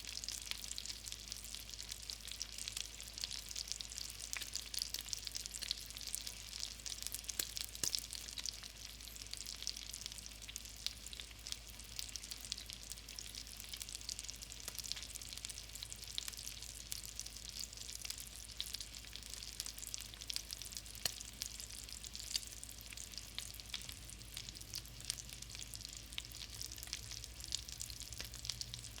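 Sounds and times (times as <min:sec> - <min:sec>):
hot grease sizzling and popping: 0:00.0 - 0:29.0.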